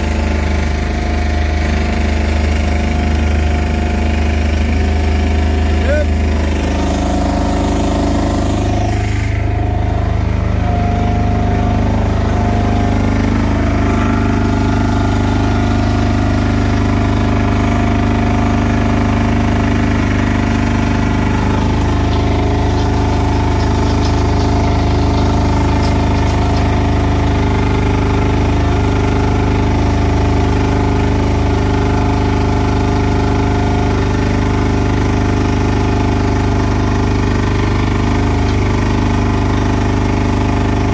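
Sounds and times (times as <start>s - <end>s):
mixer paddles churning: 0.0s - 40.9s
mortar mixer engine running: 0.0s - 40.9s.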